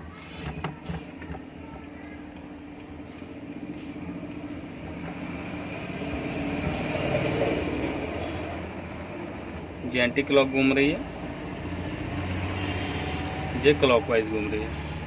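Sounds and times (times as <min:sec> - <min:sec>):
exhaust fan humming: 0:00.0 - 0:14.8.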